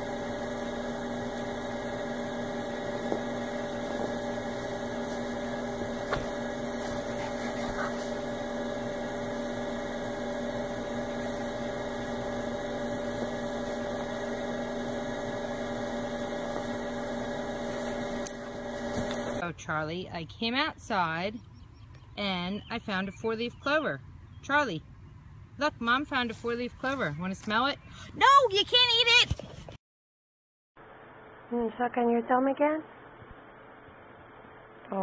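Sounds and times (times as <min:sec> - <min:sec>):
electrical hum: 0:00.0 - 0:29.2, 0:30.8 - 0:35.0.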